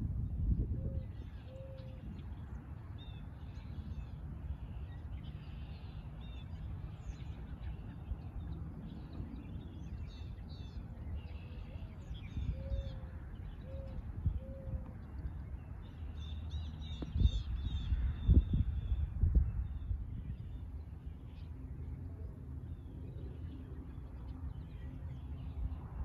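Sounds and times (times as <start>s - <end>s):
steady low rumble: 0.0s - 1.3s, 1.9s - 26.0s
birds chirping: 1.0s - 26.0s.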